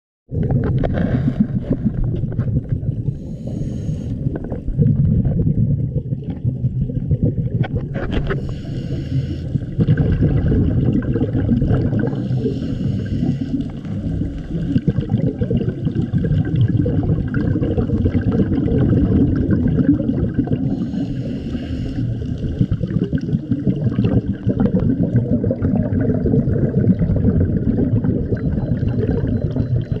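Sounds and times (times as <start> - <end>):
underwater rumble and gurgling: 0.3 - 30.0.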